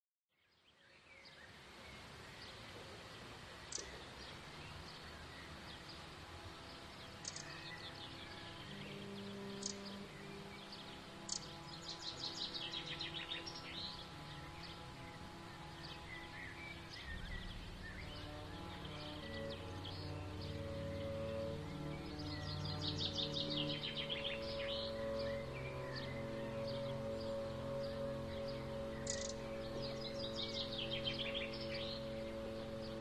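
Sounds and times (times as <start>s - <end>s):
songbirds chirping and trilling: 0.4s - 33.0s.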